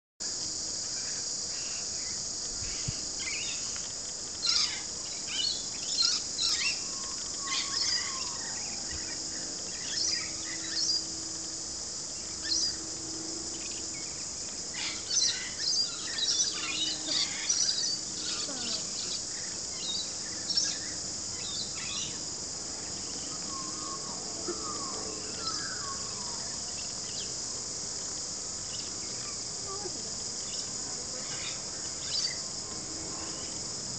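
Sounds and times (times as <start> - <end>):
high-pitched insect chorus: 0.2 - 33.9.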